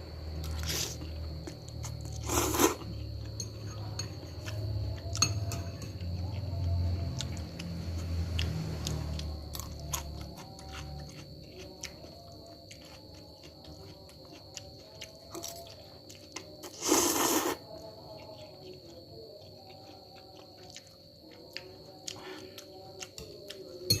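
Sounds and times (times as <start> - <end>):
person chewing crunchy food: 0.4 - 5.3, 6.0 - 23.8.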